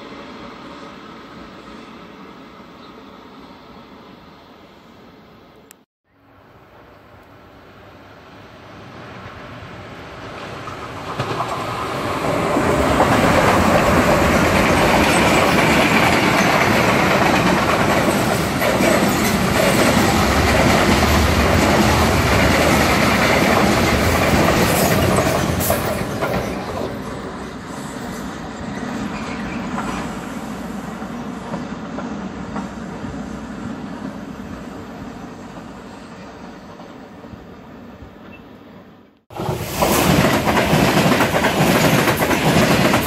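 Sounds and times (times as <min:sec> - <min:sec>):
freight train passing: 0:00.0 - 0:43.0
wheels rumbling and clacking on rails: 0:08.5 - 0:43.0.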